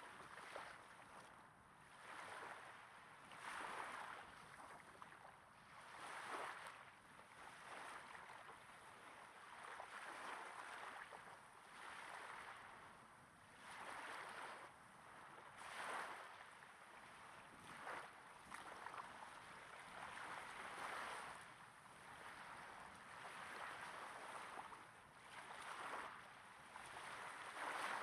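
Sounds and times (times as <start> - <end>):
small waves breaking on sand: 0.0 - 28.0.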